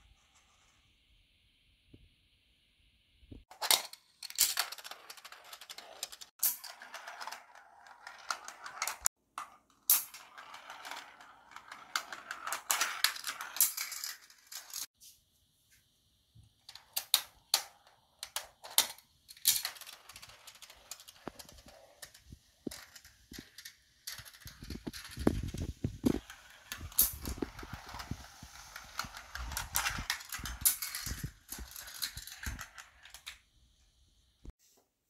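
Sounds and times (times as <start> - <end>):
marbles rolling on track: 3.6 - 14.9, 16.7 - 33.5.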